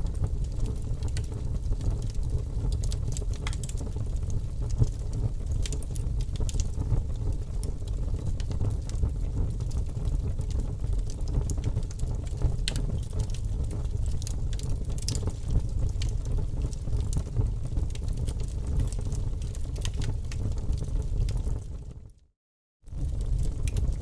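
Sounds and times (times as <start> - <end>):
fire crackling with sharp pops: 0.1 - 21.8, 22.9 - 24.0.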